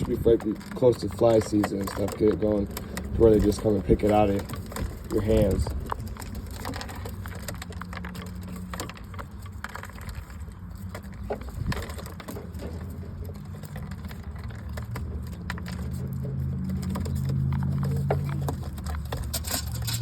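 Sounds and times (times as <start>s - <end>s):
pigeons pecking at seed: 0.0s - 20.0s.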